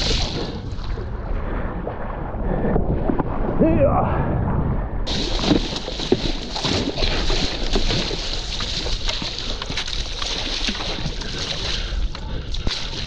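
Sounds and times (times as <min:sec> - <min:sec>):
water splashing around paddleboard: 0:00.0 - 0:03.6, 0:05.1 - 0:13.0
wind on microphone: 0:00.0 - 0:13.0.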